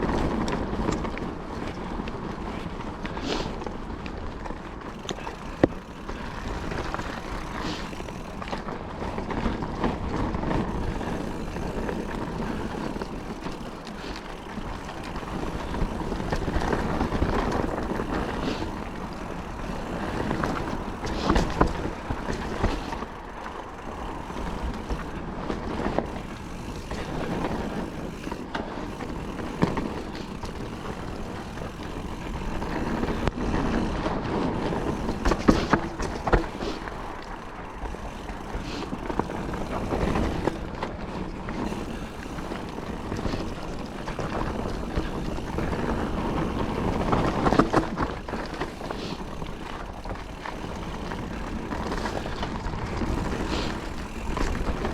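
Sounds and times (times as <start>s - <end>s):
bike knocking and rattling: 0.0s - 54.9s
bike tyres crunching on dirt: 0.0s - 54.9s.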